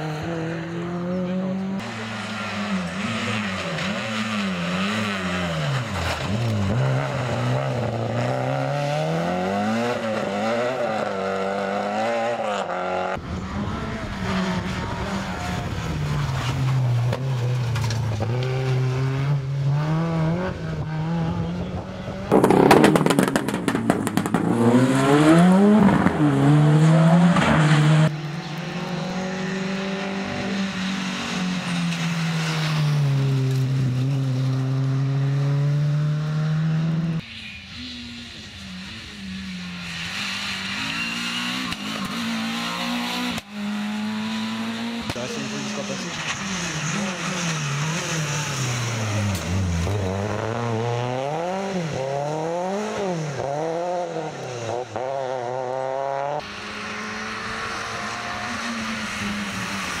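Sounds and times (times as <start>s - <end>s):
rally cars revving past: 0.0s - 60.0s.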